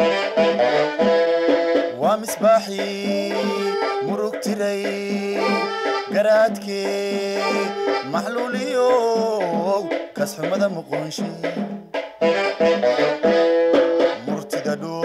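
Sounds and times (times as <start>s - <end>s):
band accompaniment: 0.0s - 15.0s
reedy held melody: 0.0s - 15.0s.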